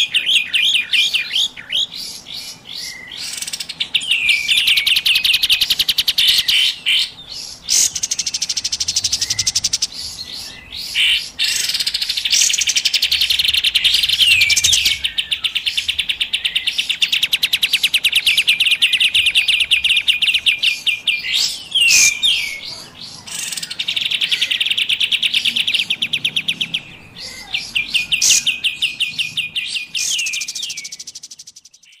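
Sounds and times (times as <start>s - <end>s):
recorded bird trills: 0.0s - 32.0s.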